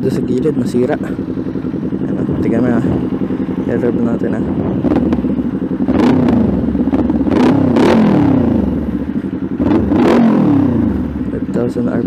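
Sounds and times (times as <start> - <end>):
motorcycle engine idling: 0.0 - 12.0
motorcycle engine revving: 0.0 - 12.0.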